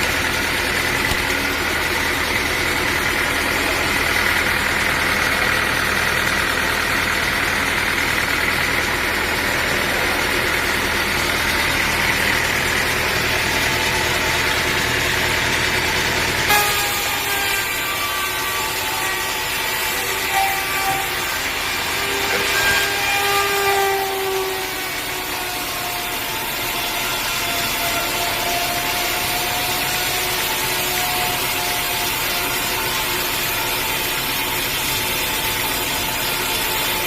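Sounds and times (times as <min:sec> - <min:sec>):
engine idling with whine: 0:00.0 - 0:37.0.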